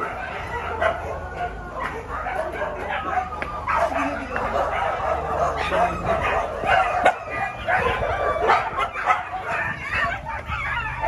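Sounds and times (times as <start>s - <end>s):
dogs barking in a fight: 0.0s - 11.0s.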